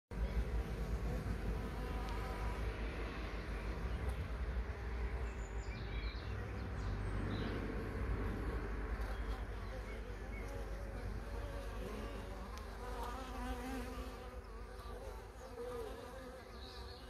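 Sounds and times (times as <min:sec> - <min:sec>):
honeybees buzzing: 0:00.2 - 0:17.0.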